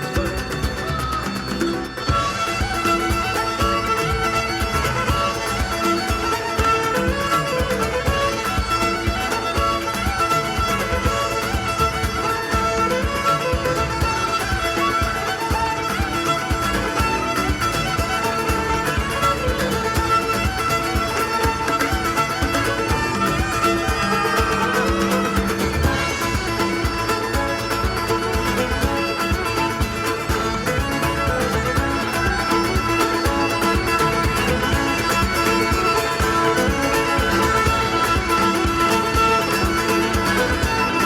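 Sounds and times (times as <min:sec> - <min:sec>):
fiddle leading: 0:00.0 - 0:41.0
folk band playing: 0:00.0 - 0:41.0.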